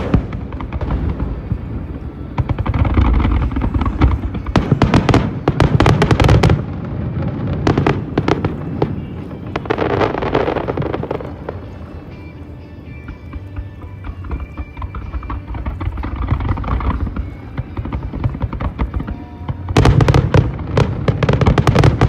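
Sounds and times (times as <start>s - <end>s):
fireworks booming: 0.0s - 22.0s
fireworks cracking and crackling: 0.0s - 22.0s.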